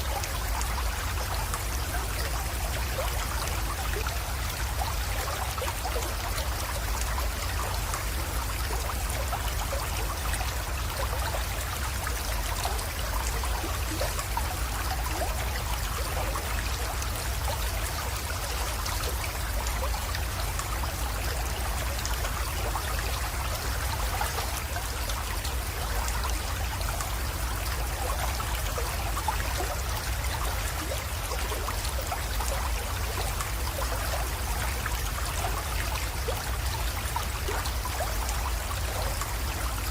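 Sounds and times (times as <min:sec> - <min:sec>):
creek water trickling and splashing: 0:00.0 - 0:39.9.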